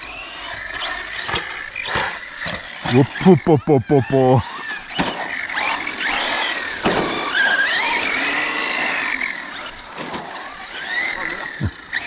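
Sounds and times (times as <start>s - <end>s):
small electric motors whining: 0.0s - 12.0s.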